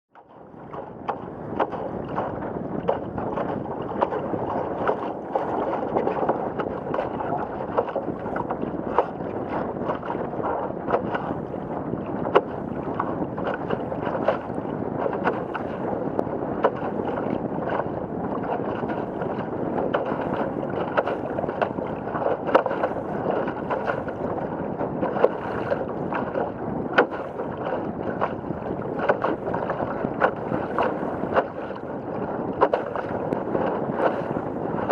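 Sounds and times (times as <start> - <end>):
water rushing past hull: 0.1 - 34.9
water slapping hull: 0.1 - 34.9.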